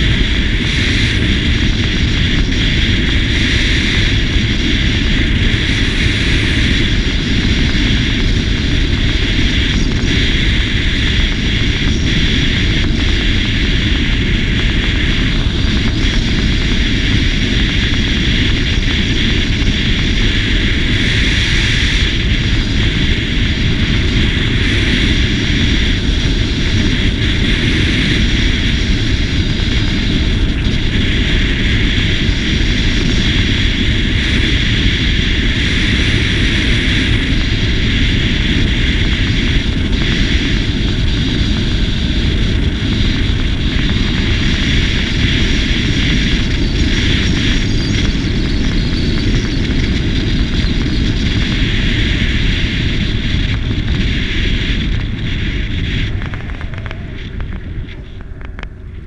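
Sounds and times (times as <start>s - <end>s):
scooter engine running: 0.0s - 59.0s
wind and road noise: 0.0s - 59.0s.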